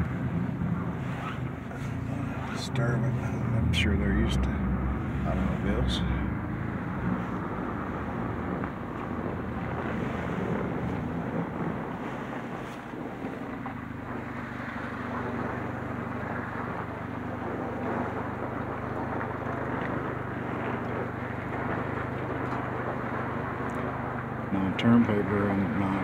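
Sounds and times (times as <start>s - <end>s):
car engine running at low speed: 0.0s - 26.0s
tyre and road noise: 0.0s - 26.0s.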